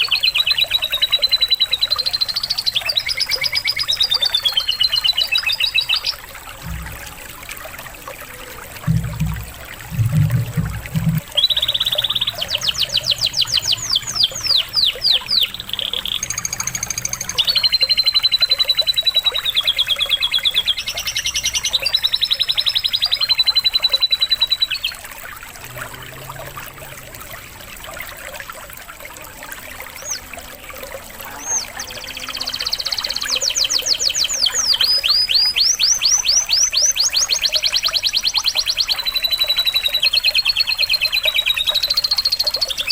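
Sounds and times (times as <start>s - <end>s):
canary singing trills: 0.0s - 7.0s, 9.9s - 25.4s, 29.7s - 30.3s, 30.9s - 42.9s
trickling water: 0.0s - 42.9s.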